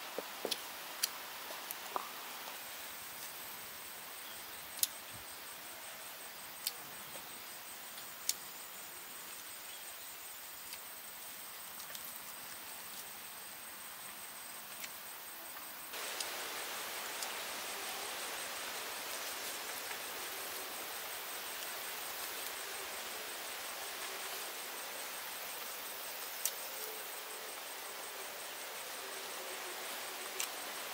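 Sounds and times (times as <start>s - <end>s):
background hiss: 0.0s - 30.9s.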